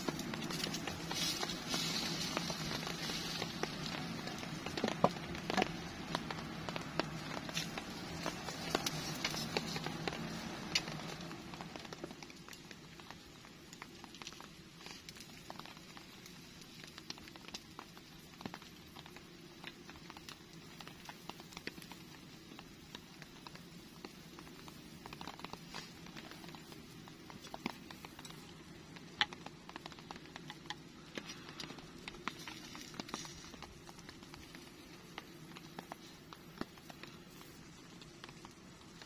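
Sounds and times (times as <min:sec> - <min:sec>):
faint steady hiss: 0:00.0 - 0:39.0
rain drop ticks: 0:00.0 - 0:39.0
rain pattering: 0:00.0 - 0:39.0.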